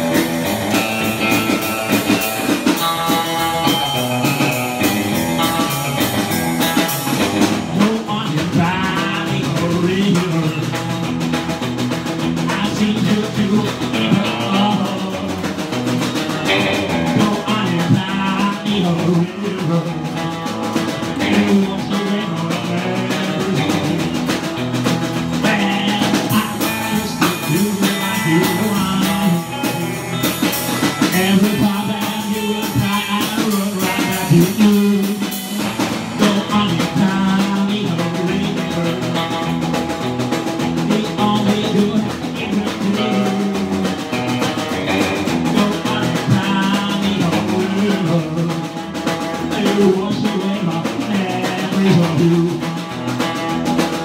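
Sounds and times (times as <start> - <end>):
drum kit: 0.0 - 54.0
electric guitar: 0.0 - 54.0
strummed acoustic guitar: 0.0 - 54.0.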